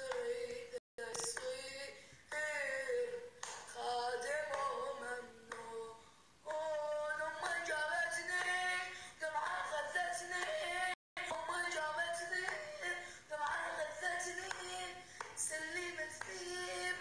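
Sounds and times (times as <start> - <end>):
person singing slow melody: 0.0 - 17.0.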